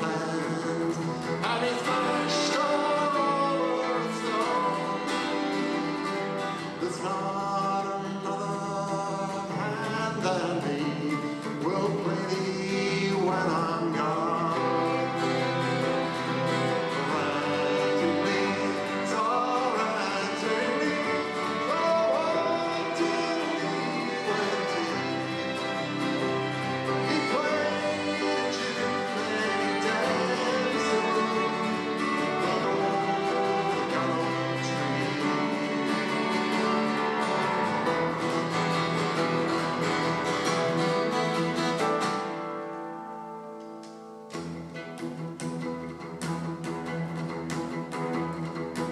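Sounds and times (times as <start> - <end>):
cello playing: 0.0 - 7.6, 9.9 - 42.7, 44.3 - 48.9
man singing: 0.0 - 39.6
violins playing: 0.0 - 42.4, 44.4 - 48.9
strummed acoustic guitar: 0.0 - 48.9.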